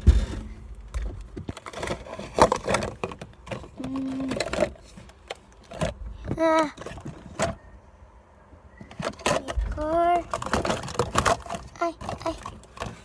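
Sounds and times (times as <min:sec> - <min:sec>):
plastic bottles clicking together: 0:00.9 - 0:07.6, 0:08.8 - 0:13.0.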